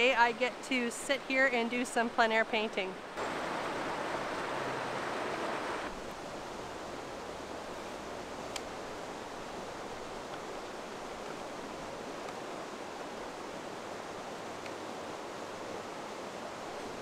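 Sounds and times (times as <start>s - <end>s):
river rapids rushing: 3.0s - 17.0s.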